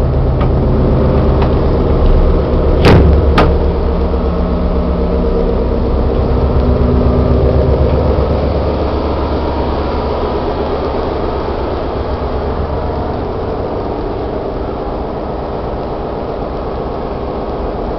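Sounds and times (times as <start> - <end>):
boat engine low pulsing rumble: 0.0 - 17.9.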